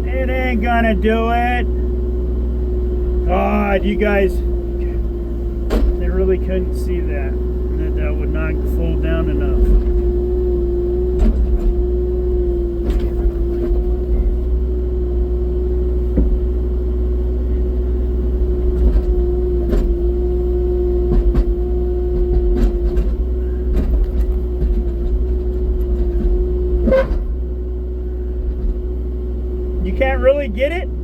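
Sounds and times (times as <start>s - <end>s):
excavator engine running with whine: 0.0s - 31.0s.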